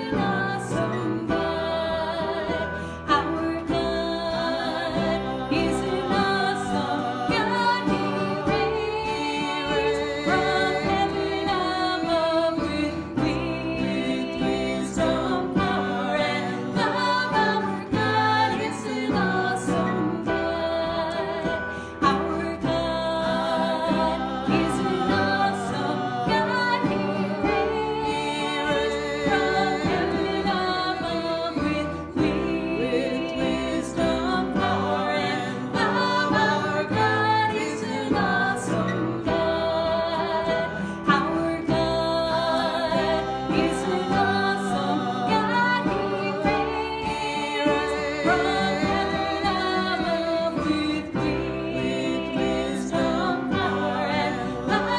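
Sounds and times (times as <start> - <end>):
instrumental accompaniment: 0.0 - 54.9
voices singing gospel song: 0.0 - 54.9.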